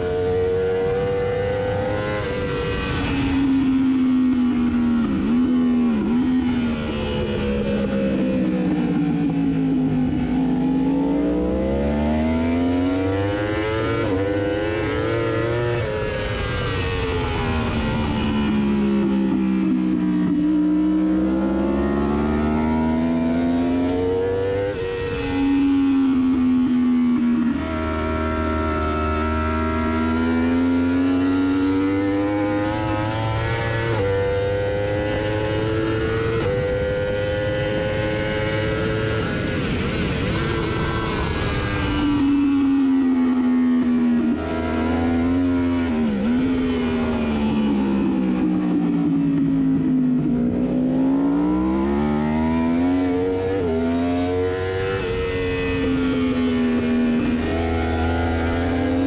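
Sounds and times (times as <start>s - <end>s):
racing motorcycle engine revving: 0.0s - 59.0s.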